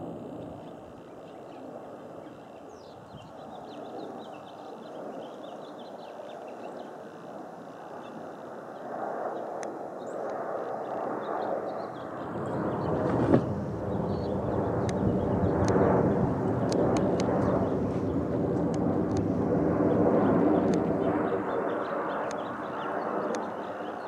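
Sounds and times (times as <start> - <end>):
jet airliner rumble: 0.0 - 24.0.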